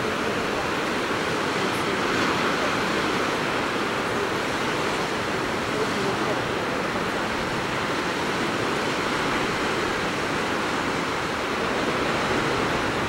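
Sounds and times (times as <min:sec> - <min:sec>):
ocean surf breaking on rocks: 0:00.0 - 0:13.0.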